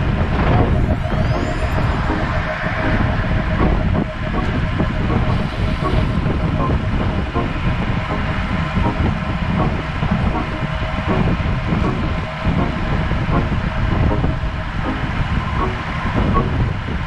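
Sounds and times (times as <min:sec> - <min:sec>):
faint steady hum: 0:00.0 - 0:17.0
road and wind rumble: 0:00.0 - 0:17.0.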